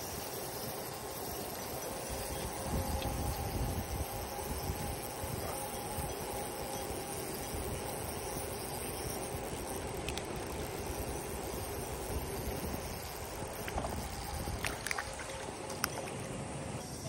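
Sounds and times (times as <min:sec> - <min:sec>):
running water: 0:00.0 - 0:16.4
wind: 0:00.0 - 0:17.0.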